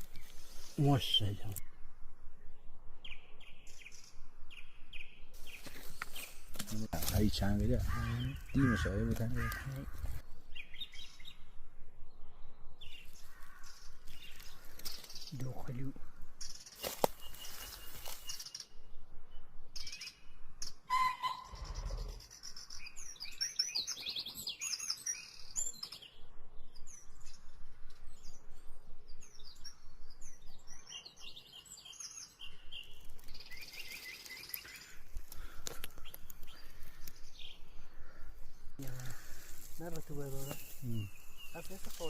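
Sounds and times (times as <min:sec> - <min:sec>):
wild birds chirping: 0:00.0 - 0:42.0.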